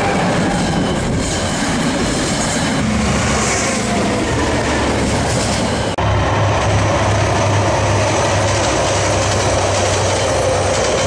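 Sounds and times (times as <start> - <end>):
diesel locomotive engine hum: 0.0 - 11.0
train wheels running on rails: 0.0 - 11.0.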